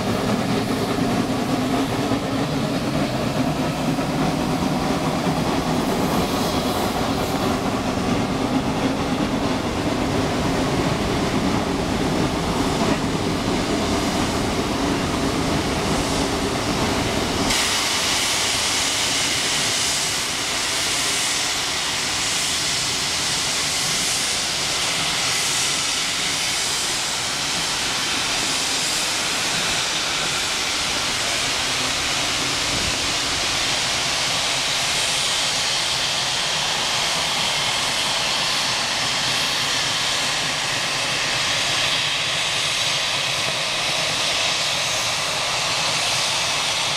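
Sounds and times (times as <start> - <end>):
steam hissing: 0.0 - 46.9
train cars rumbling over rails: 0.0 - 46.9.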